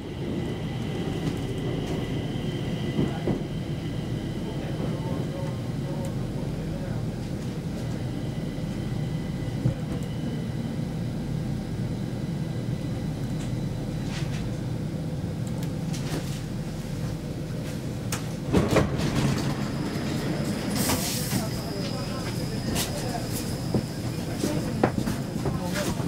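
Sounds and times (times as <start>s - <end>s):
train interior rumble: 0.0s - 26.0s.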